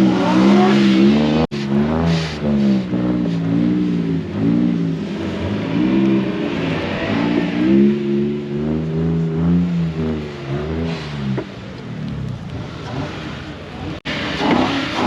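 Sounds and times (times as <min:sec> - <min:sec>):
car engine revving hard: 0:00.0 - 0:11.5, 0:12.5 - 0:15.0.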